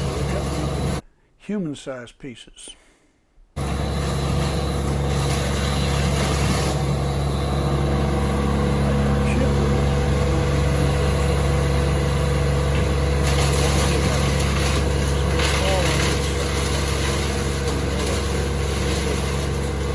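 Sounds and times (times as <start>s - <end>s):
large engine humming steadily: 0.0s - 1.0s, 3.6s - 19.9s.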